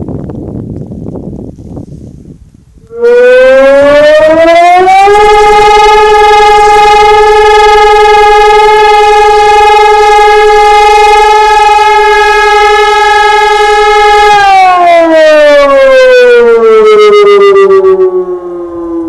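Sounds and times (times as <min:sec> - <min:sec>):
electronic siren tone: 0:02.8 - 0:19.0.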